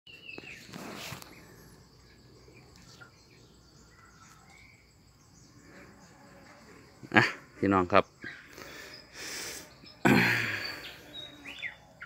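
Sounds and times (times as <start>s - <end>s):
low insect hum: 0.1s - 12.0s.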